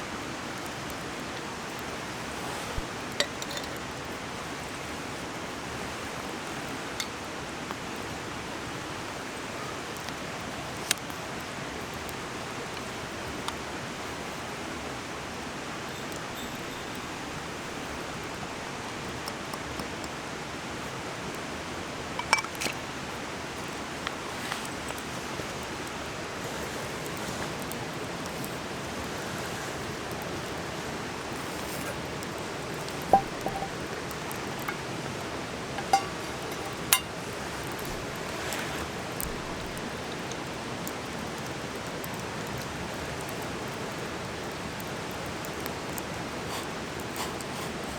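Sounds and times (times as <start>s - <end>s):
mountain stream rushing: 0.0s - 47.9s
wood fire crackling: 0.0s - 47.9s.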